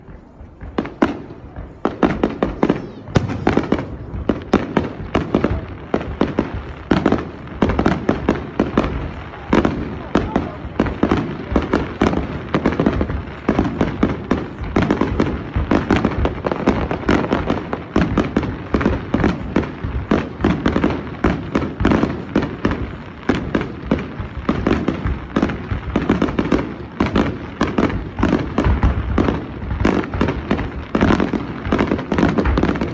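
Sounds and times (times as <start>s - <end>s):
fireworks bangs: 0.0s - 32.9s.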